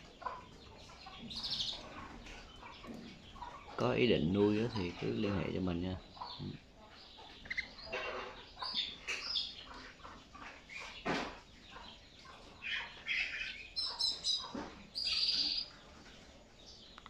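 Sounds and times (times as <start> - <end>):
canaries chirping and calling: 0.0 - 17.0.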